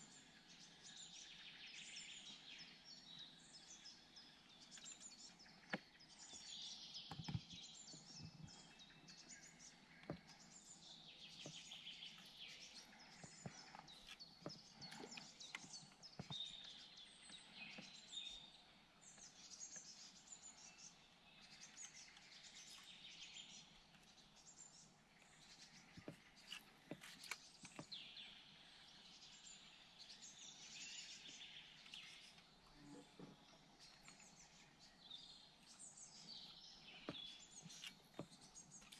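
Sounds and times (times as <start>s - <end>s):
faint birds chirping: 0.0s - 38.9s.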